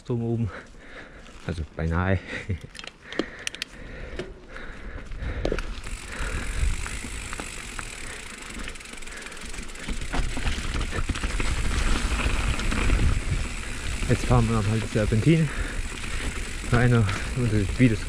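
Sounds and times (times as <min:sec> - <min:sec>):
bike tyres on dirt trail: 0:00.1 - 0:18.0
bike rattling and clicking: 0:02.3 - 0:18.0.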